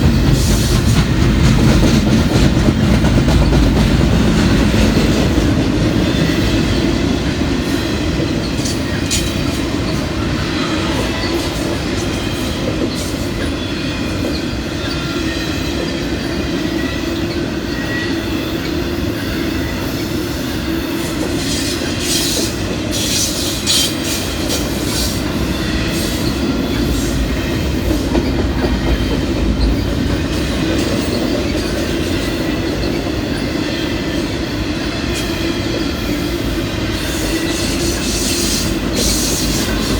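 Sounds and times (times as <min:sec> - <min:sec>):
train cars rumbling past: 0:00.0 - 0:39.9.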